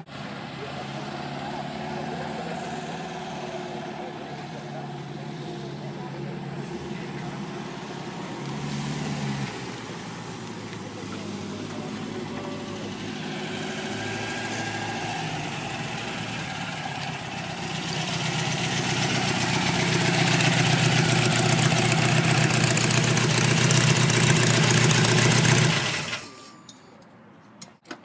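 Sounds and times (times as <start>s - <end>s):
car engine running: 0.0s - 26.2s.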